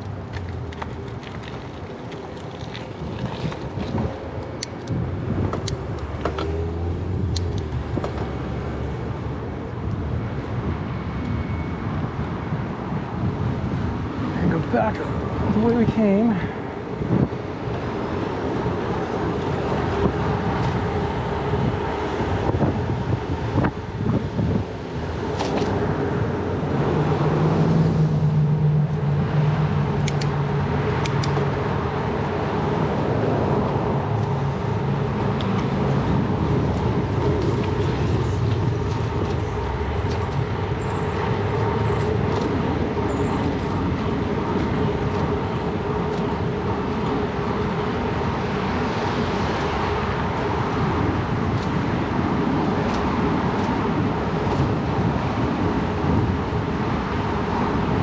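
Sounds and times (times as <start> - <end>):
bicycle tyres rolling on road: 0.0 - 58.0
low engine hum: 0.0 - 58.0
motor traffic: 0.0 - 58.0
wind noise on microphone: 0.0 - 58.0.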